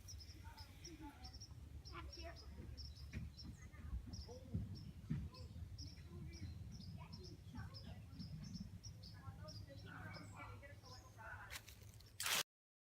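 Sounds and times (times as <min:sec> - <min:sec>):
low outdoor rumble: 0:00.0 - 0:11.5
small birds chirping: 0:00.0 - 0:12.2.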